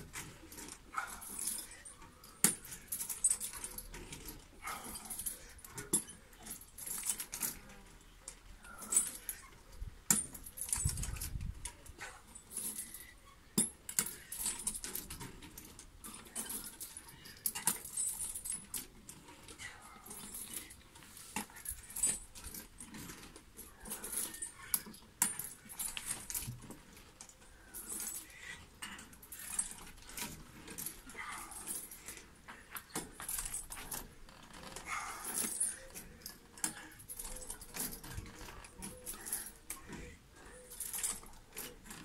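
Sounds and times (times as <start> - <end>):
metal chains jangling: 0.0 - 42.0.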